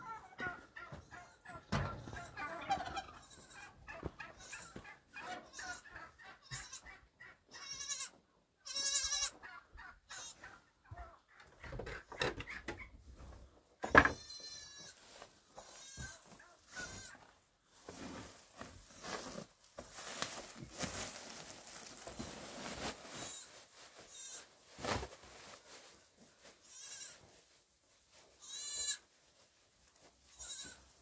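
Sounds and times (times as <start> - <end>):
footsteps and rustling on straw: 0.0 - 11.6, 14.3 - 31.0.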